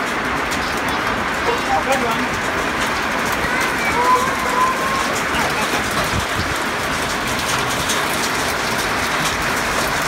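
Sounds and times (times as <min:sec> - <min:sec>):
heavy rain pouring: 0:00.0 - 0:10.0
raindrops on hard surfaces: 0:00.0 - 0:10.0.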